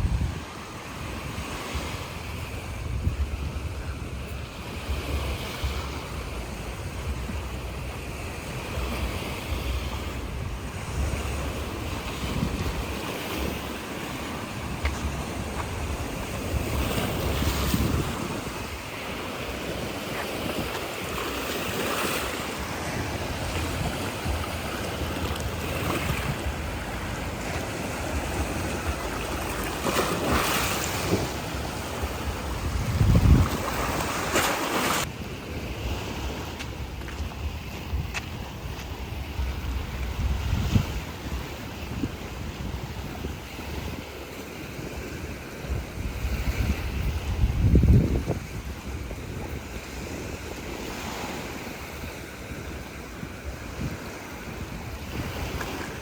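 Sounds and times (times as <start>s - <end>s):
sea waves washing ashore: 0.0s - 56.0s
wind gusting on microphone: 0.0s - 56.0s.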